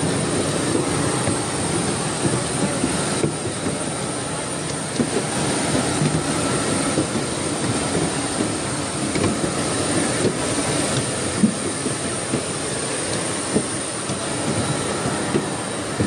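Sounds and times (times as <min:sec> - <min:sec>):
aircraft cabin rushing noise: 0:00.0 - 0:16.0.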